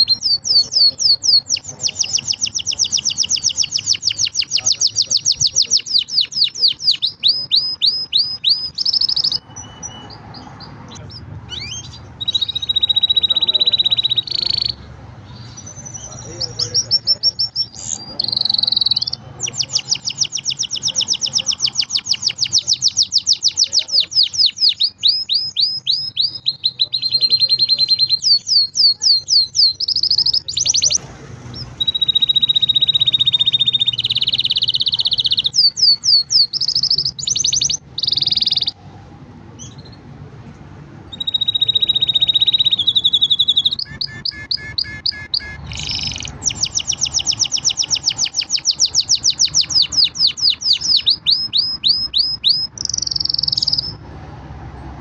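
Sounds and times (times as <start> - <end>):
canary singing trills and whistles: 0.0 - 38.9, 39.5 - 40.2, 41.0 - 54.1.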